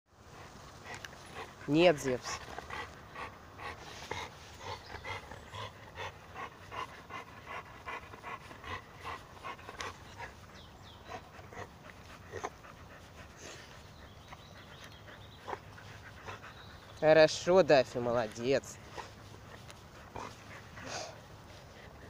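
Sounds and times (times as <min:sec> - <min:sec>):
puppy panting rapidly: 0:00.3 - 0:22.0.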